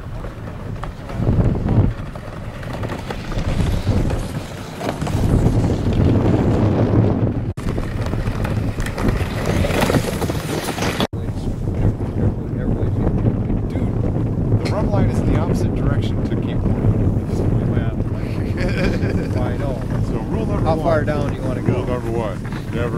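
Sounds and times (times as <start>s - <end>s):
iceboat runners rumbling on ice: 0.0s - 22.9s
wind buffeting microphone: 0.0s - 22.9s.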